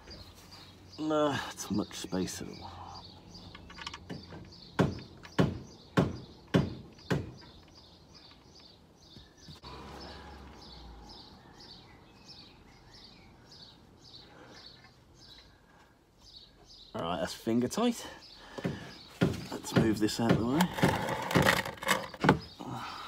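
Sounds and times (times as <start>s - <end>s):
small bird chirping: 0.0s - 22.8s.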